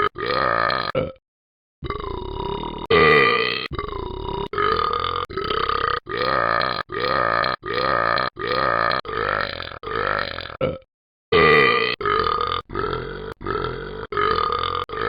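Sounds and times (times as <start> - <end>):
person burping: 0.0 - 1.2, 1.8 - 15.0.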